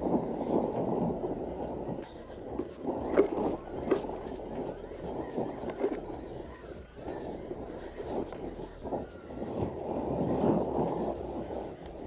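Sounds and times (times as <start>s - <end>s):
bike tyres rumbling on rocks: 0.1s - 12.0s.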